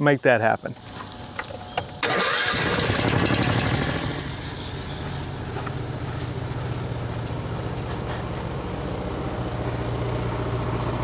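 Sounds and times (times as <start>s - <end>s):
small gas engine running: 2.0s - 11.0s.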